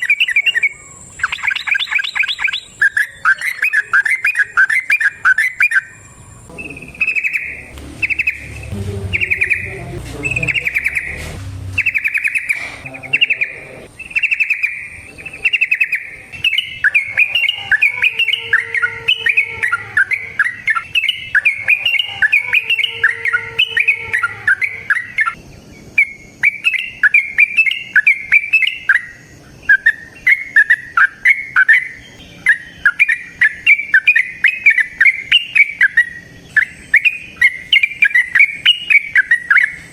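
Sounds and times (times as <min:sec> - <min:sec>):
bird singing quick chirps: 0:00.0 - 0:39.9.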